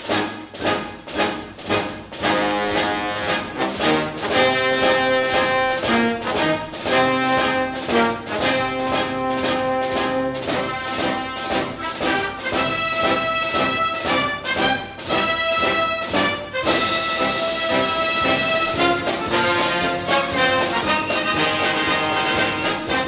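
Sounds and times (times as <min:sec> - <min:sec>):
instrumental music with steady beat: 0:00.0 - 0:23.0.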